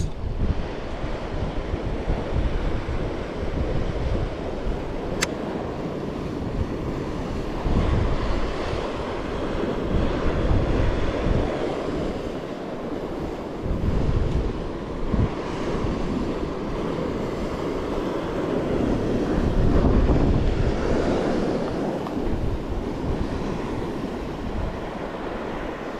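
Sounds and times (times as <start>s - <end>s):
ocean surf on rocky shore: 0.0s - 25.9s
wind buffeting microphone: 0.0s - 25.9s.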